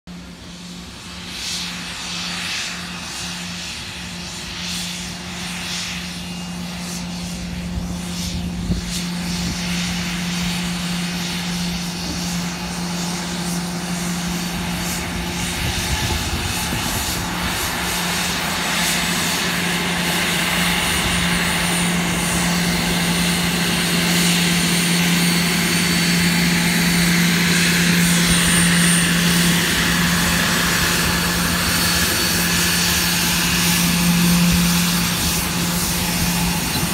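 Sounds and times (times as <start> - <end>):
jet engines humming and rushing: 0.1 - 36.9
thin high whine: 6.0 - 36.9.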